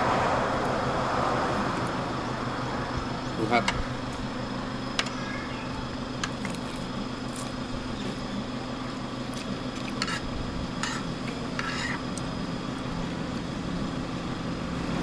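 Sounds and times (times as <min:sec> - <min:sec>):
low background hum: 0:00.4 - 0:15.0.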